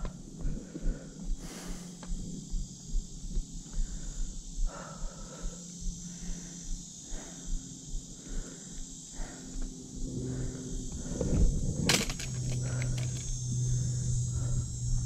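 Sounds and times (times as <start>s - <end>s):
hard breathing: 0.0s - 15.0s
insects buzzing: 0.0s - 15.0s.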